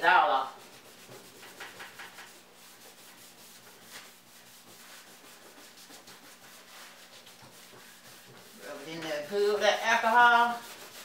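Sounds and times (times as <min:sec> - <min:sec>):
cloth rubbing on painted metal: 0:00.0 - 0:11.0.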